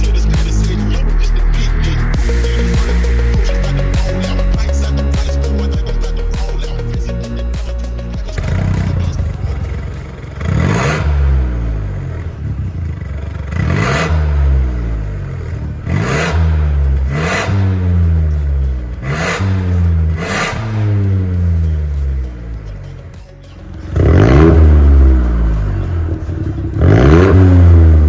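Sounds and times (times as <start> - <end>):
exhaust rushing bursts: 0.0 - 22.5
car engine revving: 0.0 - 28.0.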